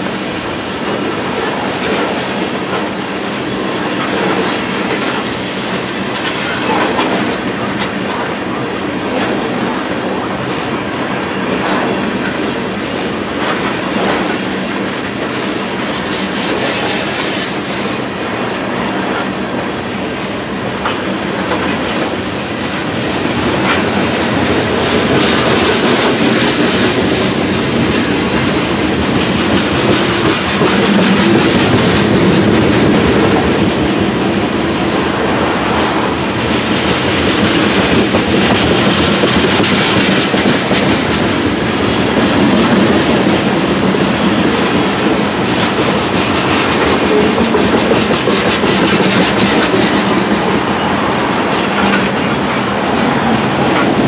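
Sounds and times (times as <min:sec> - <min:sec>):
train wheels rumbling on rail: 0:00.0 - 0:54.0
wheels clacking over rail joints: 0:00.0 - 0:54.0.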